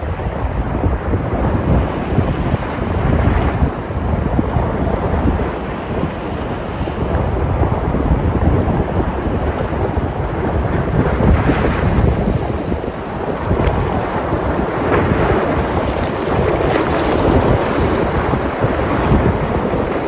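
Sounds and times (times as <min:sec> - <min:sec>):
waves breaking and washing: 0:00.0 - 0:20.0
wind buffeting microphone: 0:00.0 - 0:20.0.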